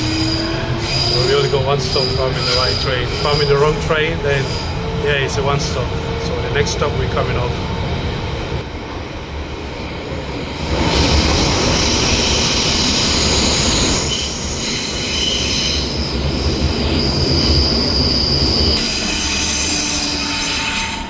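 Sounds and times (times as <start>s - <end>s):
high wheel squeal: 0.0s - 6.8s, 10.7s - 21.0s
train rumbling on rails: 0.0s - 21.0s.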